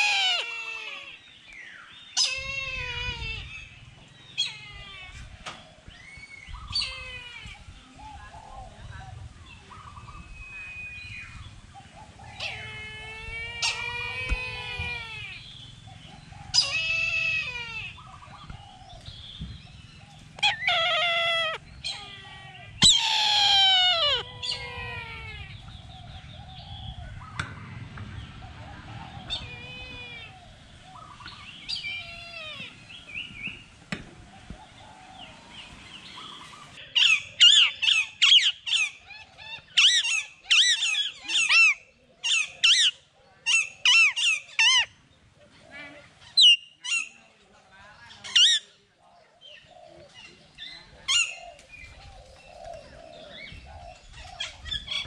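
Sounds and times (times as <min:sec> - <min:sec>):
harsh bird calls: 0:00.0 - 0:55.0.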